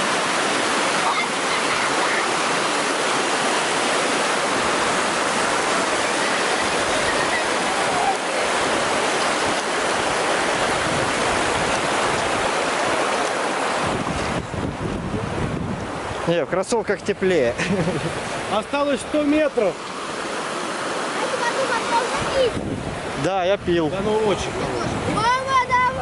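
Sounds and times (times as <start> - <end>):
fast-flowing stream rushing: 0.0 - 26.0.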